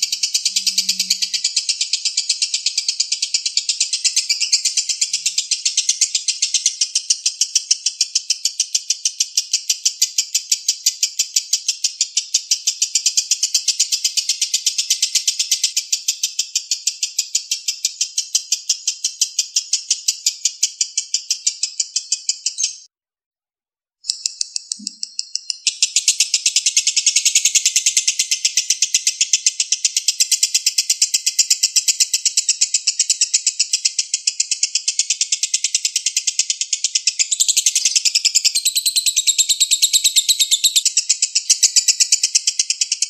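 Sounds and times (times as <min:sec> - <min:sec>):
lovebird rapid chatter: 0:00.0 - 0:22.9, 0:24.1 - 0:43.0.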